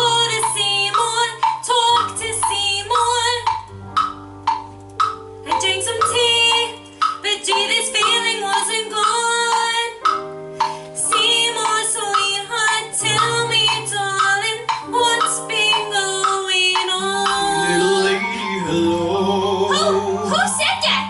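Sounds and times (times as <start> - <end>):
woman singing: 0.0 - 3.4, 5.5 - 10.0, 11.0 - 21.0.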